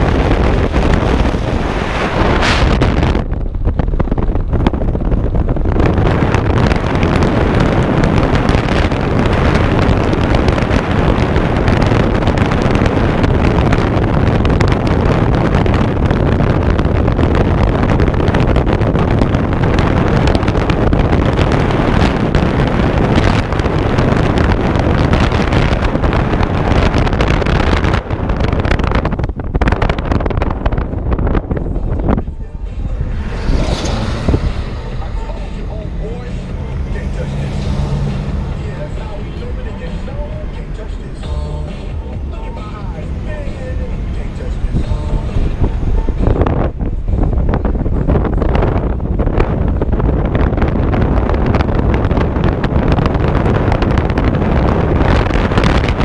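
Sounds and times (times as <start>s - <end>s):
vehicle road and engine noise: 0.0s - 56.0s
wind buffeting microphone: 0.0s - 56.0s.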